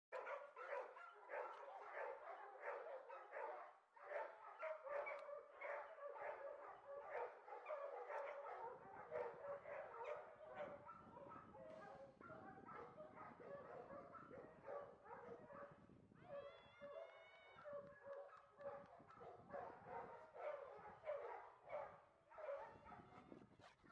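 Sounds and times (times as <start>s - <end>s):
dogs barking and yapping: 0.1s - 23.9s.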